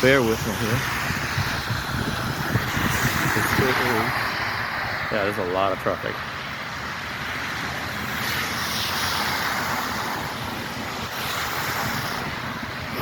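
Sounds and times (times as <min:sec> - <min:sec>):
traffic on slushy road: 0:00.0 - 0:13.0.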